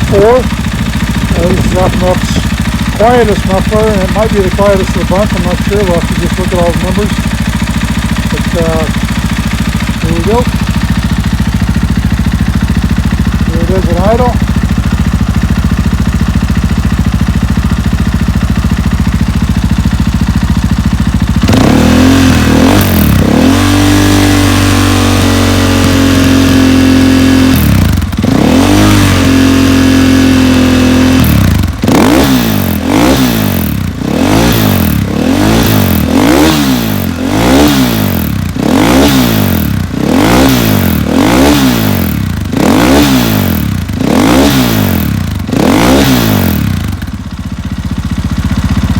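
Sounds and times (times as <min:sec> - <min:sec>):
dirt bike engine idling and revving: 0:00.0 - 0:48.9.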